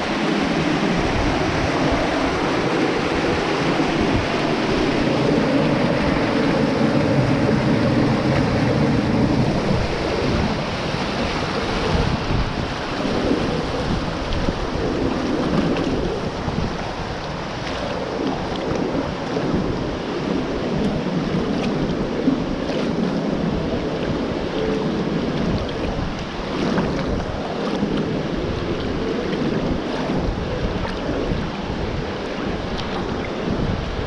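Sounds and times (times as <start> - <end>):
river water sloshing and rushing: 0.0 - 34.0.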